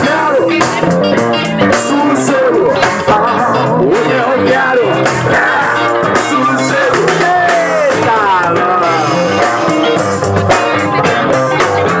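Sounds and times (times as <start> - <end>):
drum kit beat: 0.0 - 12.0
electric guitar: 0.0 - 12.0
live rock band: 0.0 - 12.0.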